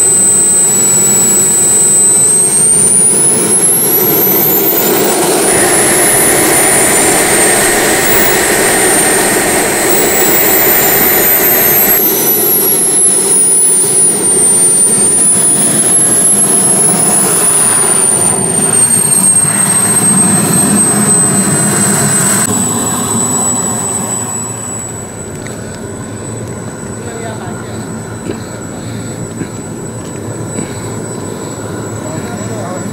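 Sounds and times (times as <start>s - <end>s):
model jet turbine roar and whine: 0.0s - 32.9s.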